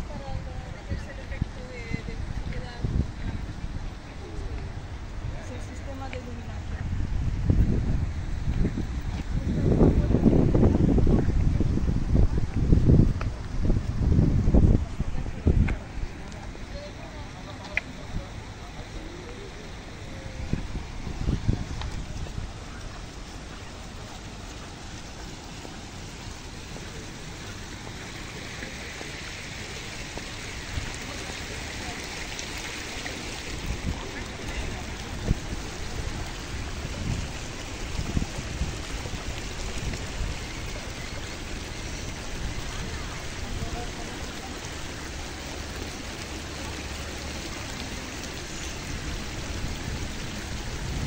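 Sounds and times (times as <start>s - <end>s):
fountain jets splashing into pool: 0.0s - 51.0s.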